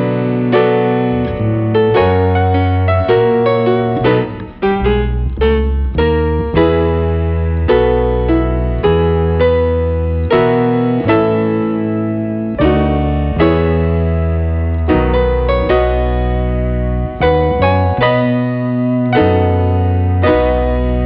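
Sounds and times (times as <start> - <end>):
electric piano slow melody: 0.0 - 21.0.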